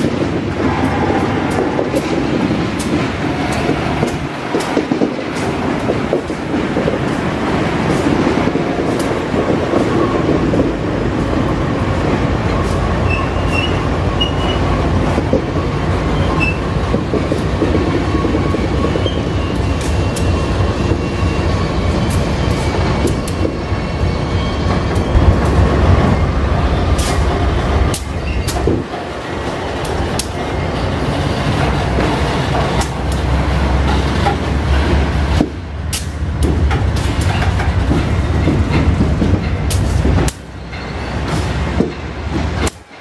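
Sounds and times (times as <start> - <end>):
diesel locomotive engines running: 0.0 - 43.0
train wheels rumbling: 0.0 - 43.0.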